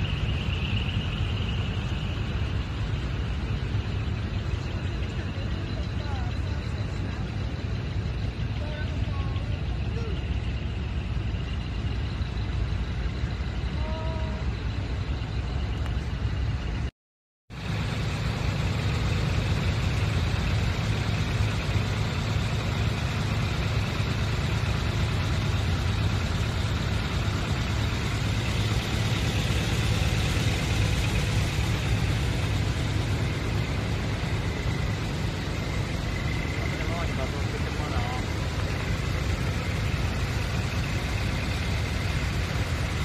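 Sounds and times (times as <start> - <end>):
truck engines idling: 0.0 - 16.9, 17.5 - 43.0.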